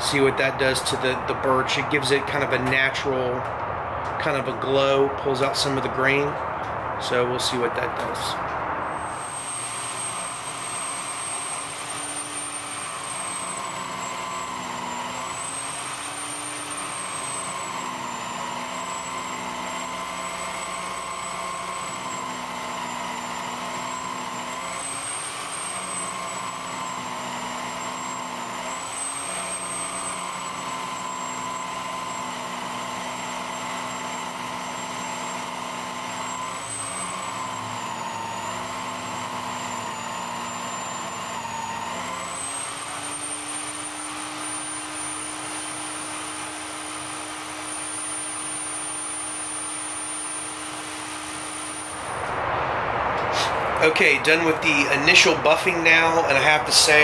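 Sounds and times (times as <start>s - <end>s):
buffing wheel motor whine: 0.0s - 57.0s.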